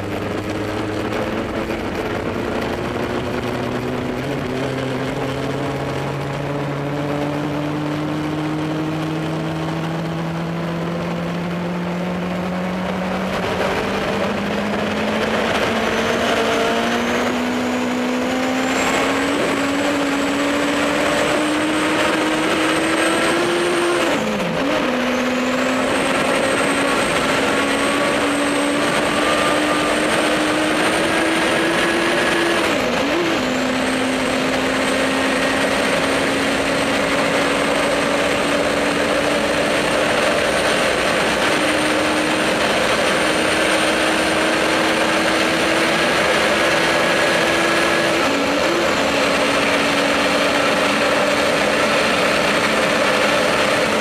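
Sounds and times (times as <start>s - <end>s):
engines under full acceleration: 0.0s - 54.0s
rushing wind noise: 0.0s - 54.0s.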